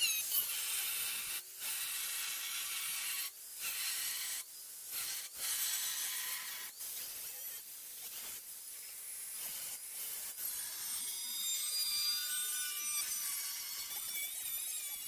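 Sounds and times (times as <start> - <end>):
angle grinder cutting steel: 0.0 - 7.7, 9.5 - 15.0.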